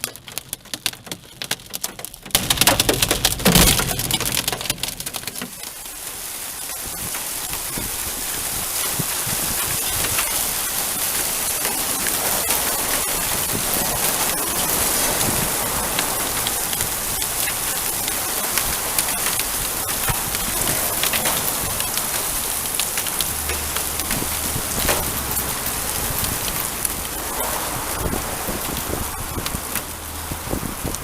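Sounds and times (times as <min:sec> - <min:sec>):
heavy rain downpour: 0:00.0 - 0:31.0
raindrops ticking on surfaces: 0:00.0 - 0:31.0.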